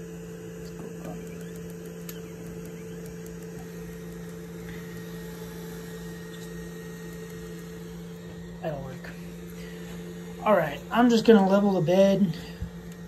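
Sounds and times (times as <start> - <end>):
printer fans and motors humming: 0.0 - 13.0.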